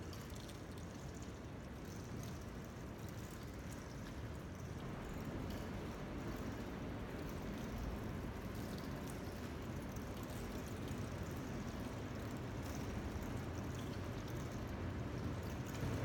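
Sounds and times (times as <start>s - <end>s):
room noise rumble and hiss: 0.0s - 16.0s.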